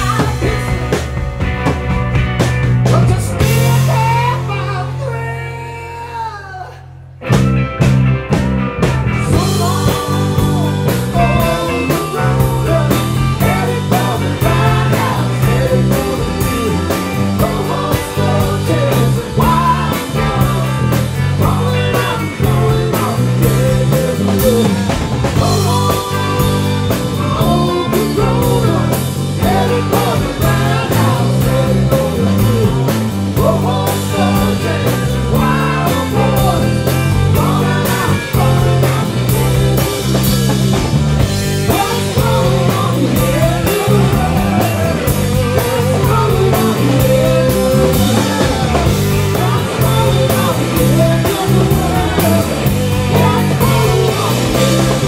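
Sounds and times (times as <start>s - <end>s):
bass guitar: 0.0s - 55.0s
electric guitars: 0.0s - 55.0s.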